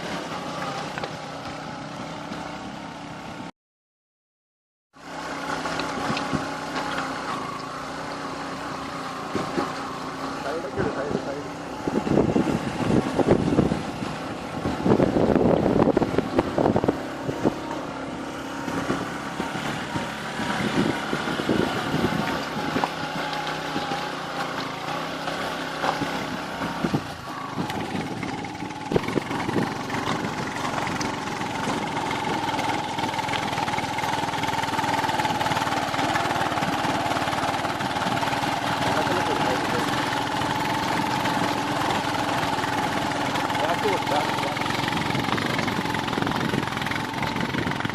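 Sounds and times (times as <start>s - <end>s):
off-road vehicle engine running: 0.0s - 3.5s, 4.9s - 47.9s.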